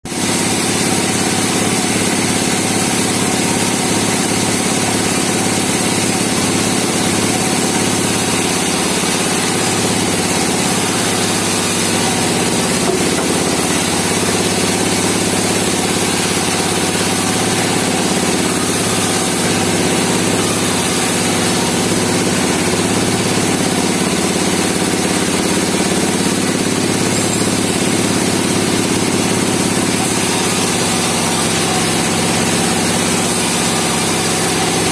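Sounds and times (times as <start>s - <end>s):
sawmill engine running: 0.1s - 34.9s.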